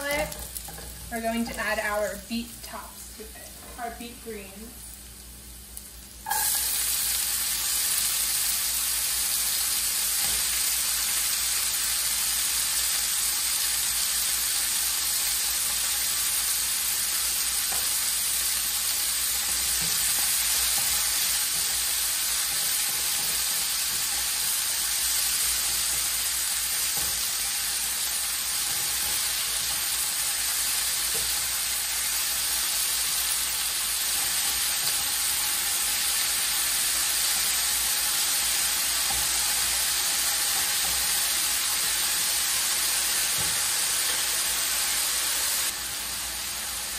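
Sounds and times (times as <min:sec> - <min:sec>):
greens sizzling in oil: 0:00.0 - 0:46.9.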